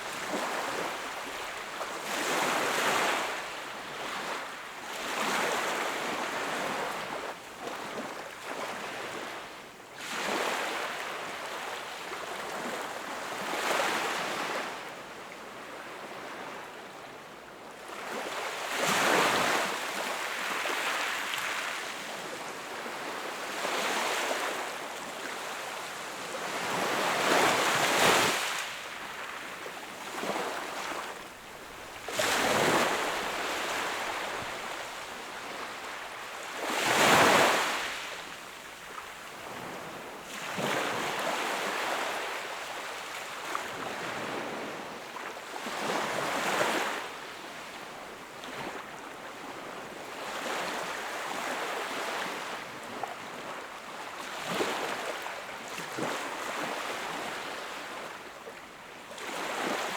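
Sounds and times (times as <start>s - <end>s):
small waves breaking on shore: 0.0s - 16.8s, 17.8s - 59.9s.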